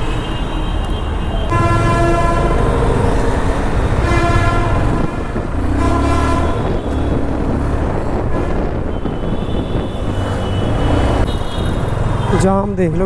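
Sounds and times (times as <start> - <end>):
vehicle horns honking: 0.0 - 12.5
motorcycle engine and road rumble: 0.0 - 13.0.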